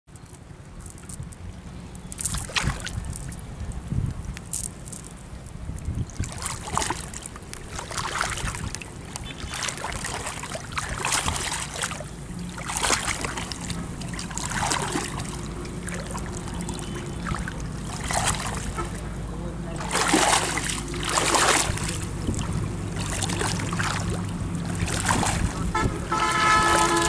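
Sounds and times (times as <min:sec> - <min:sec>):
water splashing and sloshing: 0:00.1 - 0:27.0
steady low rumble: 0:00.2 - 0:27.0.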